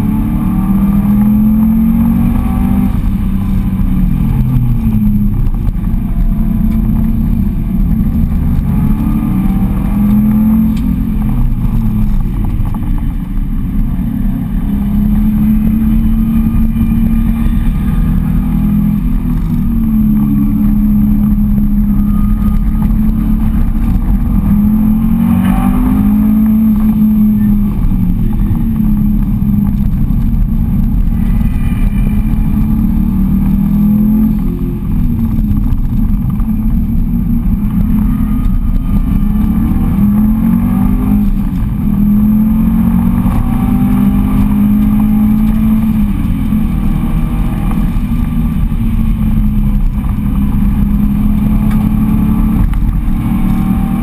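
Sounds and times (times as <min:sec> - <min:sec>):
car engine revving: 0:00.0 - 0:54.0
tyre and road noise: 0:00.0 - 0:54.0.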